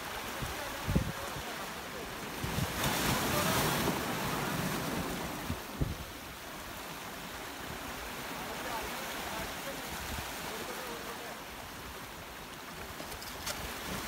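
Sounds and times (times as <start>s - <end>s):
waves washing against rocks: 0.0s - 14.0s.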